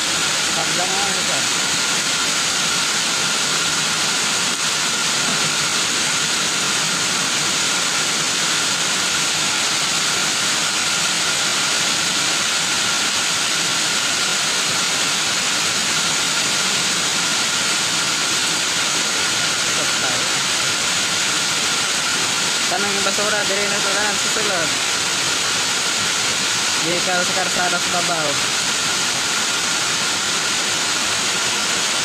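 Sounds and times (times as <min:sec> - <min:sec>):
heavy downpour: 0:00.0 - 0:32.0.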